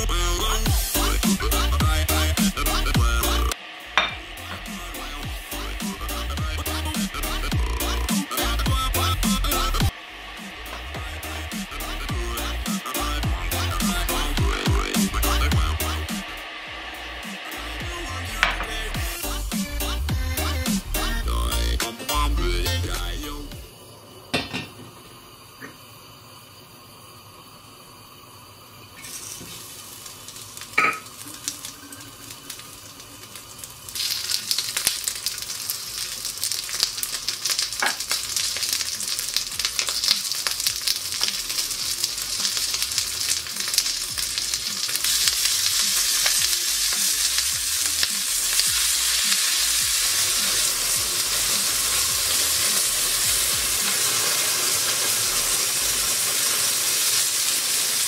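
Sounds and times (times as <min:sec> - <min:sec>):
fat crackling and sizzling in pan: 0:00.0 - 0:58.0.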